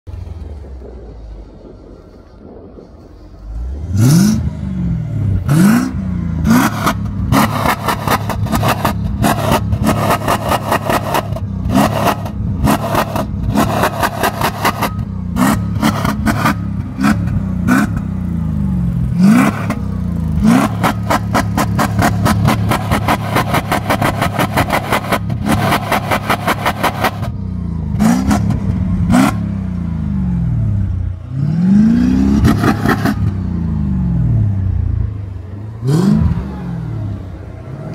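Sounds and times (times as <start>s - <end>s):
car engine revving: 0.1s - 37.9s
rapid exhaust pulsing: 0.1s - 37.9s.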